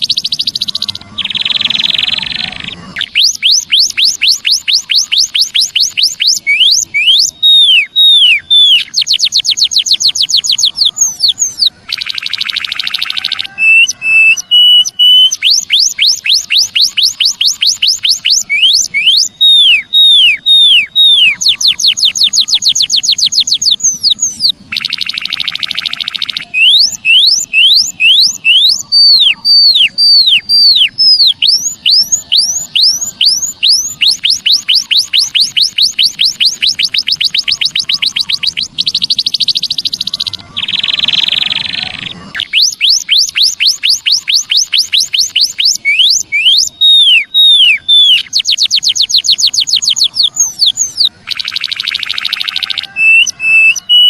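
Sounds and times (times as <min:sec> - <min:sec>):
bird whistled song: 0:00.0 - 0:54.0
buzzy rasping bird calls: 0:00.0 - 0:54.0.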